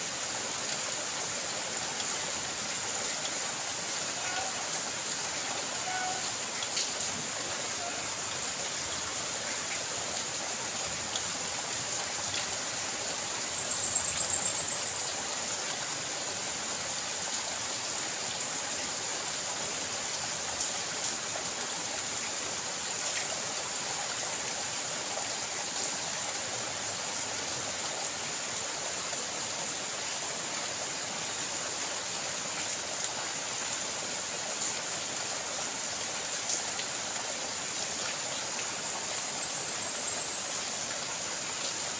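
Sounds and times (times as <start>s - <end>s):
rain and running water: 0.0s - 41.9s.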